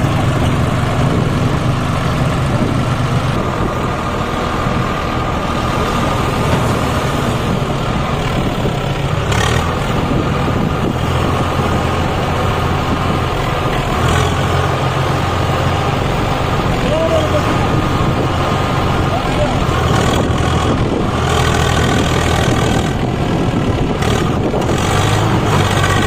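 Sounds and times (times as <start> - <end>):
tractor diesel engines straining: 0.0 - 26.0.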